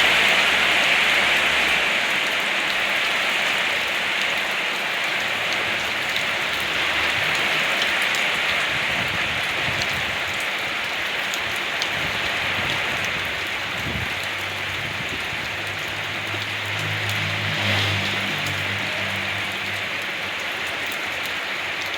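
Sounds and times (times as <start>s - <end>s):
steady rain hiss: 0.0s - 21.9s
raindrop ticks: 2.0s - 21.9s.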